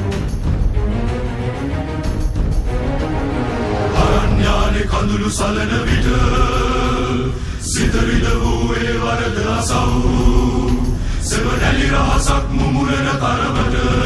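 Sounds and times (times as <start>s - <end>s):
film soundtrack music: 0.0s - 14.0s
choir chanting long notes: 0.1s - 14.0s.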